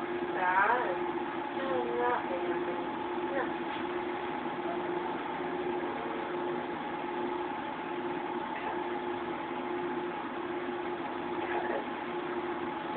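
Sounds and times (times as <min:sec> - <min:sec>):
machine humming: 0:00.0 - 0:12.9.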